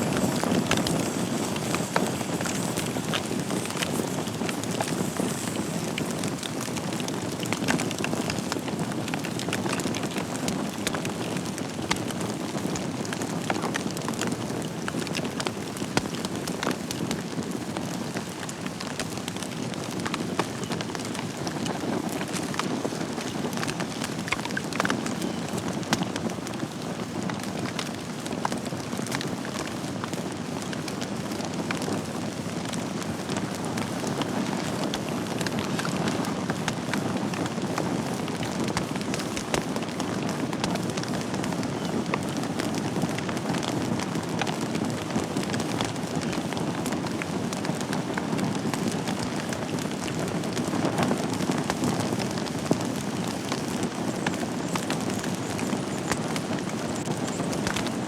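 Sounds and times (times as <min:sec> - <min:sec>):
burning logs crackling and popping: 0:00.0 - 0:58.0
flames rushing: 0:00.0 - 0:58.0.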